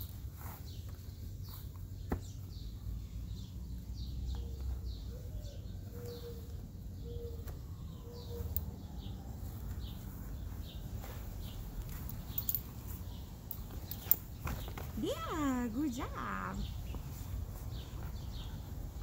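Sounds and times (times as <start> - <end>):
bird chirping: 0.4 - 19.0.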